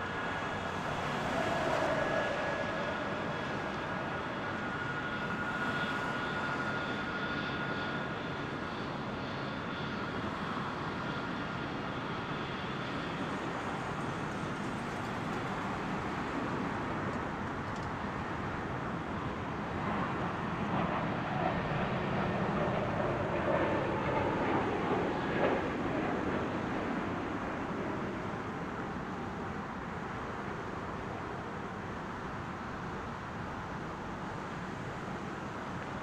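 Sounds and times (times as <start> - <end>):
jet engines running low power: 0.0 - 36.0.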